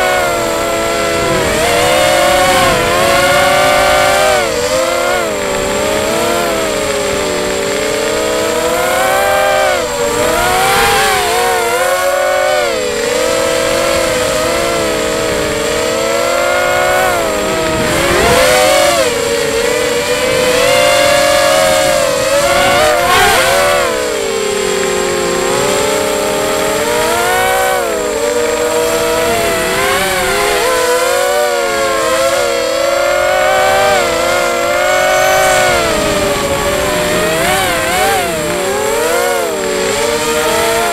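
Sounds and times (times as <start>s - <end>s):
quadcopter motors buzzing whine: 0.0s - 40.9s.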